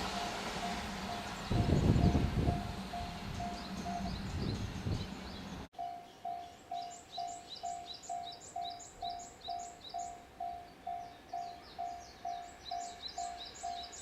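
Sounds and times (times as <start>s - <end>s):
level crossing warning bell: 0.0s - 4.2s, 5.8s - 14.0s
freight train rumble: 0.0s - 14.0s.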